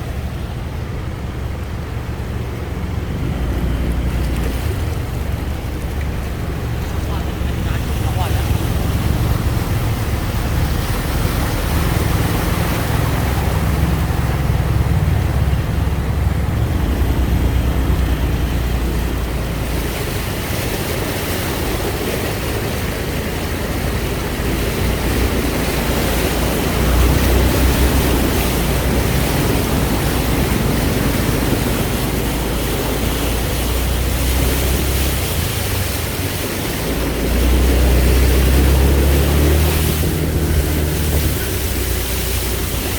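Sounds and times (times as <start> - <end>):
rushing water: 0.0 - 42.9
wind buffeting microphone: 0.0 - 42.9.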